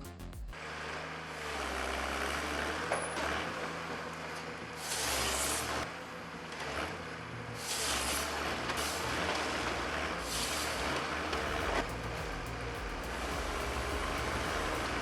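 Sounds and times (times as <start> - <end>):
diesel machinery droning: 0.6 - 15.0.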